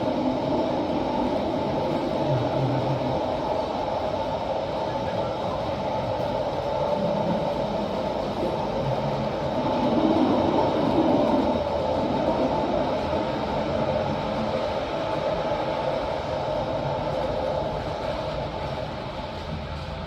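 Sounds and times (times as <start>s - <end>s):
mechanical running noise with hum: 0.0s - 20.0s.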